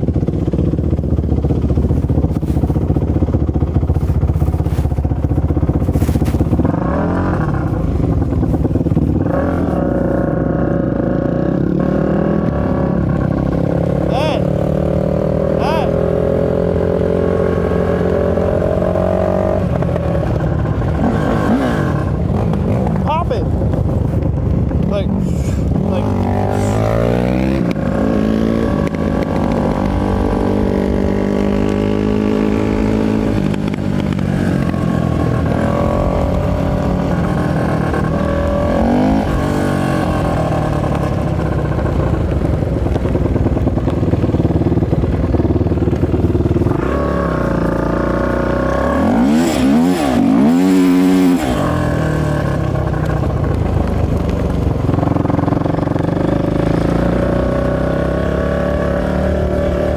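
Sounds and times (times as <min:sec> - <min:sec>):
off-road motorcycle engine revving: 0:00.0 - 0:59.9.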